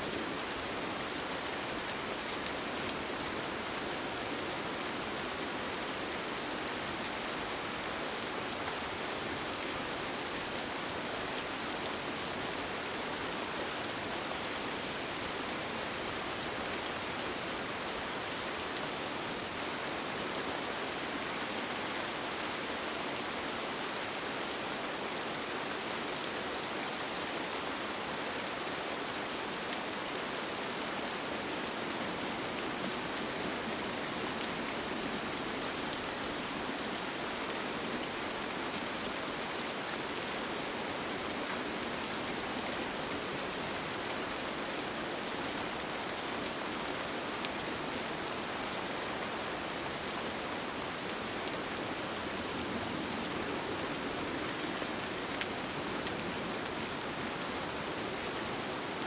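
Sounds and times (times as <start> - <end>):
rain on a tent: 0.0 - 59.0.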